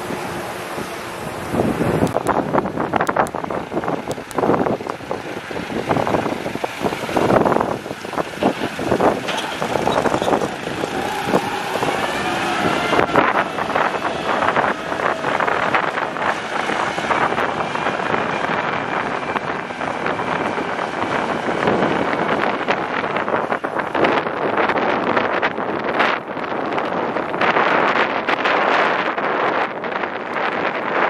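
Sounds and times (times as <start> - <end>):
tractor diesel engine under load: 0.0 - 31.0
wind buffeting microphone: 0.0 - 31.0.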